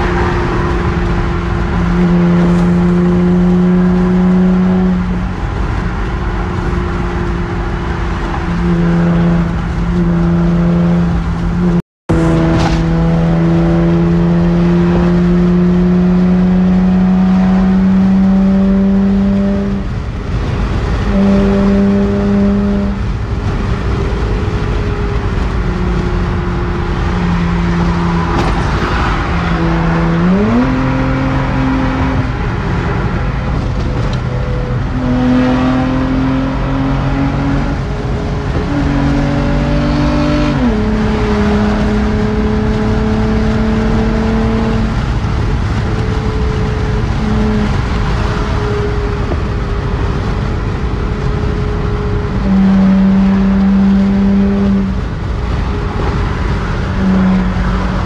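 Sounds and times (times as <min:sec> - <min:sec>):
car engine droning: 0:00.0 - 0:58.0
road and tyre noise: 0:00.0 - 0:58.0.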